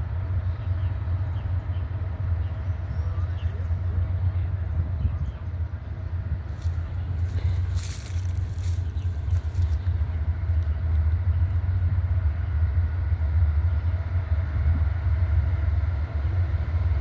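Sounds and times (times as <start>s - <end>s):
freight train rumbling by: 0.0s - 17.0s.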